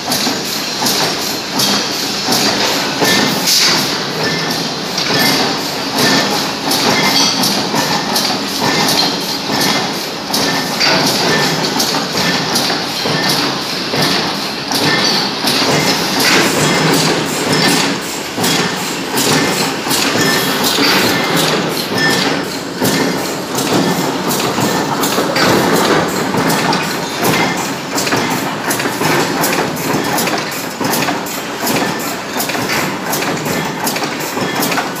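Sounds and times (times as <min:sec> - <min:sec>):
press machinery clattering: 0:00.0 - 0:35.0.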